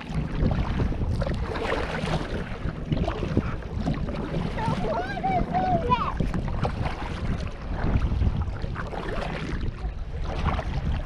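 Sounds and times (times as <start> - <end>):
water splashing around kayak: 0.0 - 11.0
wind on microphone: 0.0 - 11.0.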